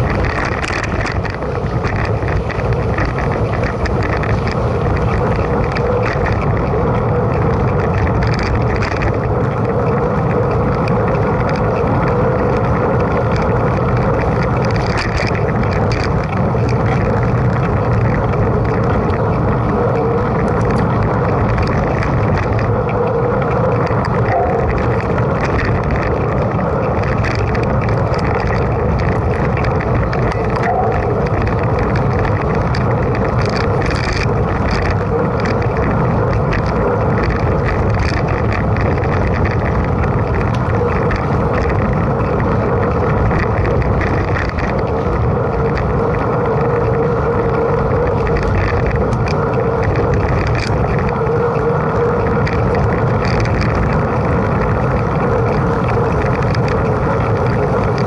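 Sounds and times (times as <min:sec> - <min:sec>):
bike rolling: 0:00.0 - 0:58.0
small rattles and crackles: 0:00.0 - 0:58.0
wind noise: 0:00.0 - 0:58.0.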